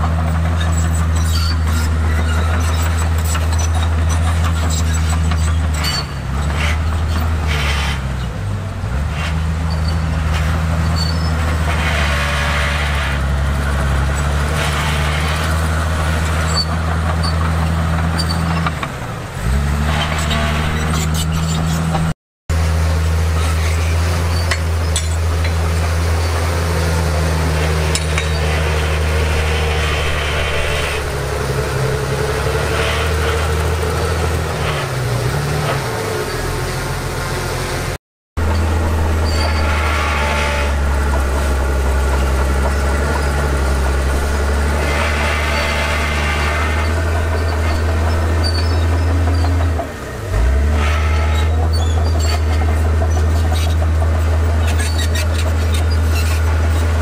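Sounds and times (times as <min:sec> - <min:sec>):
bulldozer diesel engine running: 0:00.0 - 0:57.0
rough scraping noise: 0:00.0 - 0:57.0.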